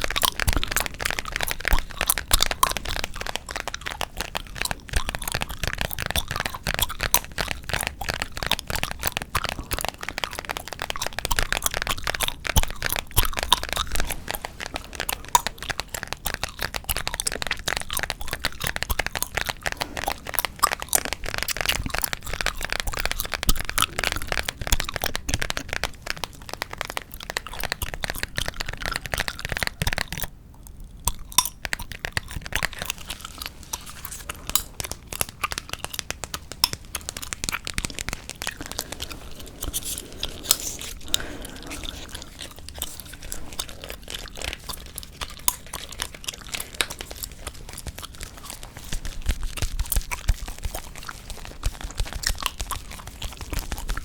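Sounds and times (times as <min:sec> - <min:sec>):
gum chewing clicks: 0:00.0 - 0:54.0.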